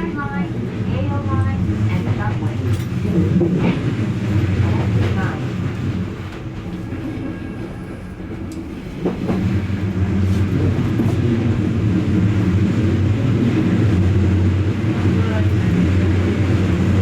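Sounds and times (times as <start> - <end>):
electric train running on rails: 0.0 - 17.0.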